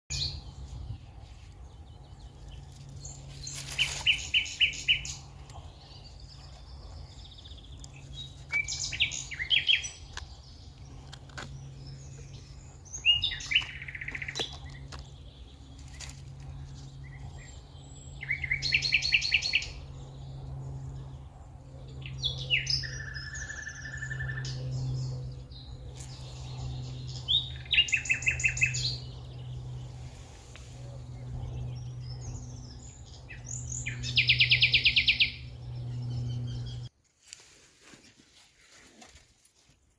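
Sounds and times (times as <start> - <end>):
low background hum: 0.1 - 36.9
songbird singing: 0.1 - 36.9.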